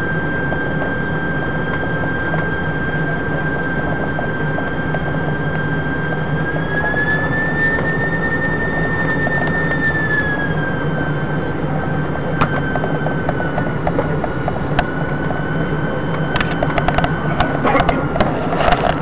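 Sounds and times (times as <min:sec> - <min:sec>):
high engine whine: 0:00.0 - 0:19.0
jet engine roar in cabin: 0:00.0 - 0:19.0.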